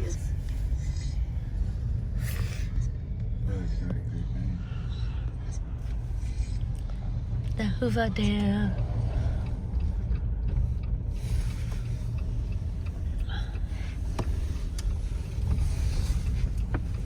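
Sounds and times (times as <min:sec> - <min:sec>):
road and engine rumble in car: 0:00.0 - 0:17.0.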